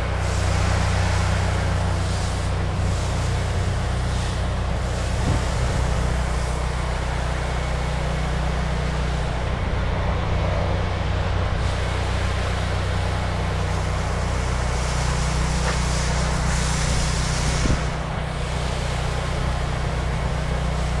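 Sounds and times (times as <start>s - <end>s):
engine running steadily: 0.0s - 21.0s
steady hiss: 0.0s - 21.0s.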